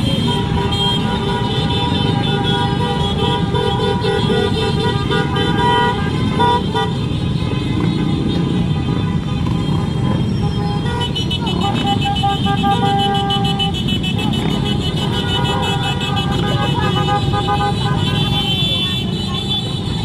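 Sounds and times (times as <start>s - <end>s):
horn tooting rapidly: 0.0s - 20.0s
motorcycle engines rumbling: 0.0s - 20.0s
motorcycle horns honking: 0.0s - 20.0s.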